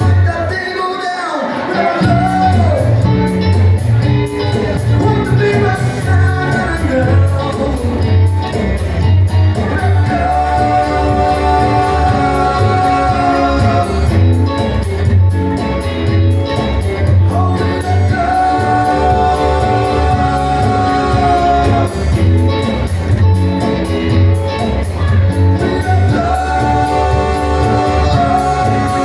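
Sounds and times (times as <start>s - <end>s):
person singing: 0.0s - 3.8s, 4.5s - 15.2s, 17.0s - 22.9s, 24.8s - 29.0s
live rock band playing: 0.0s - 29.0s
pulsing bass line: 2.0s - 29.0s.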